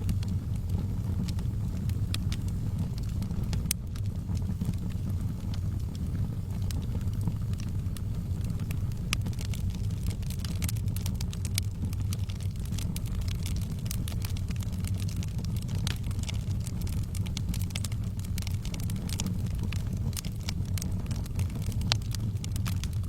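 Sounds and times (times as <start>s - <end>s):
fire pops and snaps: 0.0s - 23.0s
low rumble: 0.0s - 23.0s
wood fire crackling: 0.0s - 23.0s.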